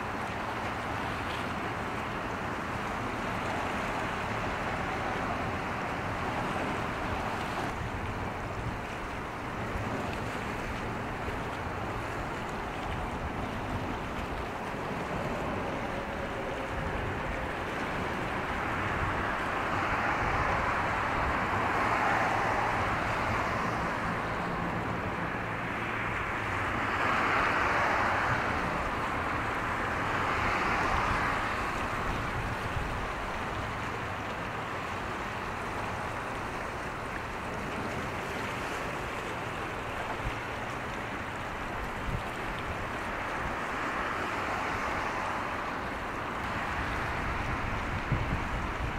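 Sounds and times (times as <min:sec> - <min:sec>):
wind and water noise: 0:00.0 - 0:48.9.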